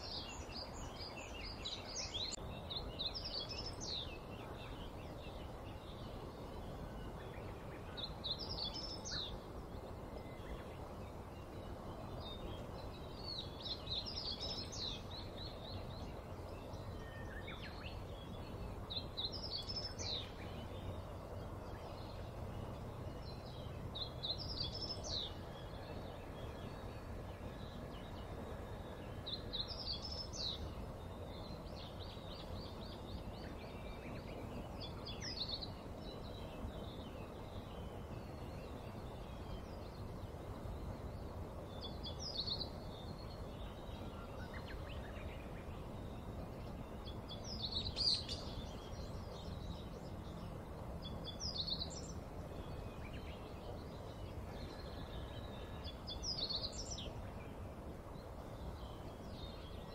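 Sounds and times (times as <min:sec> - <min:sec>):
background noise: 0:00.0 - 0:59.9.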